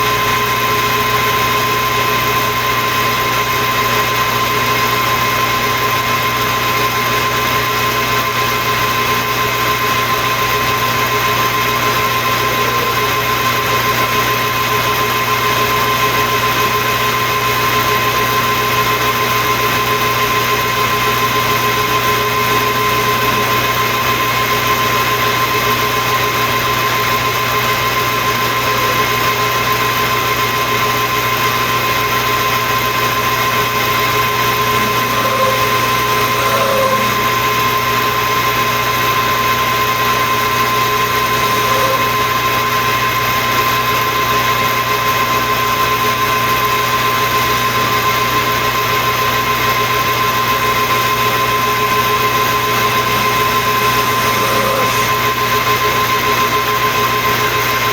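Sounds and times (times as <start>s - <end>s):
metal lathe whining: 0.0s - 57.9s.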